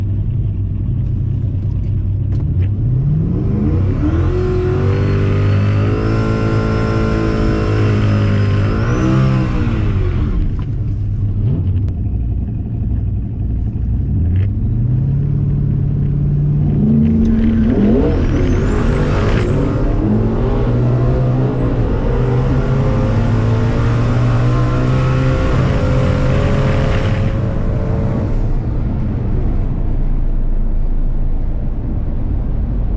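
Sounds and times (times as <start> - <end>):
car engine revving: 1.7 - 30.8.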